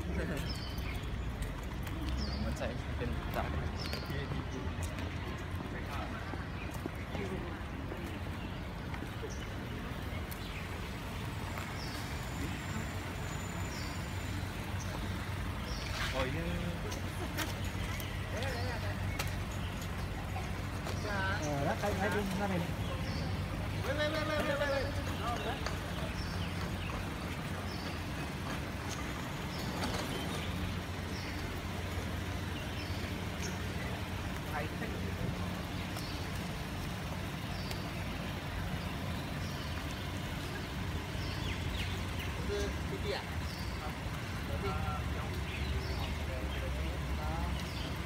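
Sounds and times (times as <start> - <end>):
car engine humming: 0.0 - 48.0.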